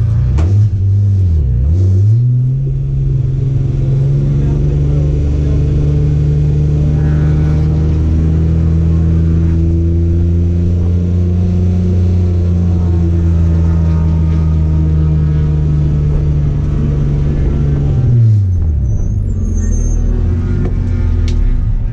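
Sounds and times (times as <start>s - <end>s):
race car engine at high revs: 0.0s - 21.9s.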